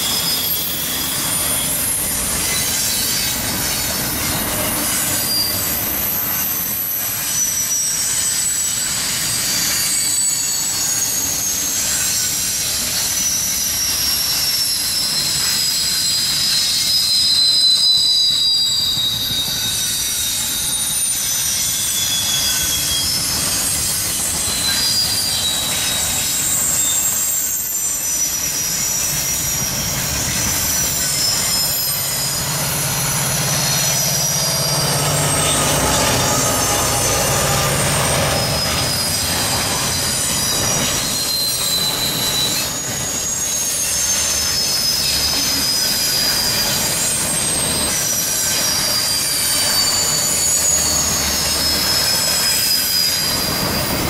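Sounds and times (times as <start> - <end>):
train cars rumbling: 0.0 - 54.0
train wheels squealing on rails: 0.0 - 54.0.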